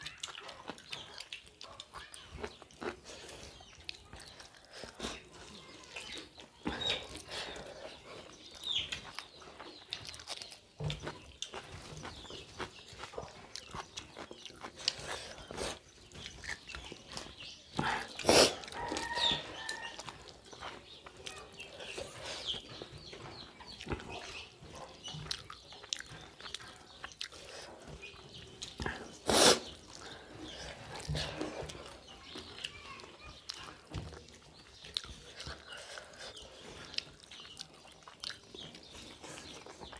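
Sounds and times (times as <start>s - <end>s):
chewing and lip smacking: 0.0s - 39.9s.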